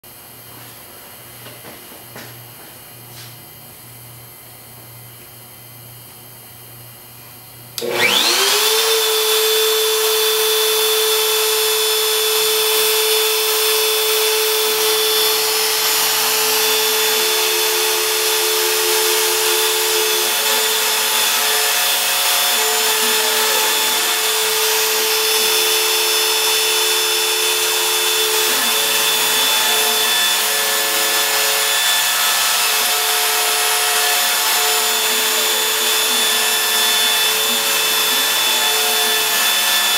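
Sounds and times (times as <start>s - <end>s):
spindle motor whine: 7.8s - 39.9s
stepper motor tones: 7.8s - 39.9s.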